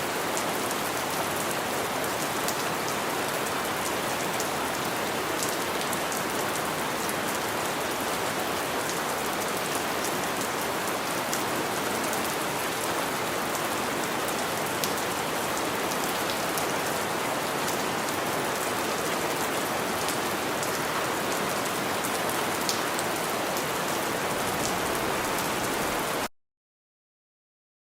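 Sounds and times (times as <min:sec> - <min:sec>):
steady rain falling: 0:00.0 - 0:26.3.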